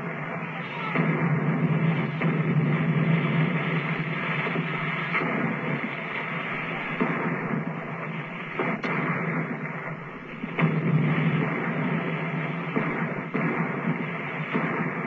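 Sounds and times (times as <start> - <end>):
gunfire and blasts: 0.0 - 15.0
noisy din of combat: 0.0 - 15.0.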